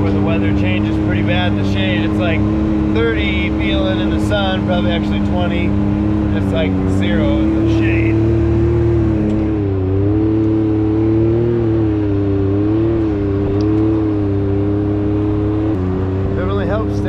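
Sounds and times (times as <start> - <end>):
turbocharged engine running: 0.0 - 17.0.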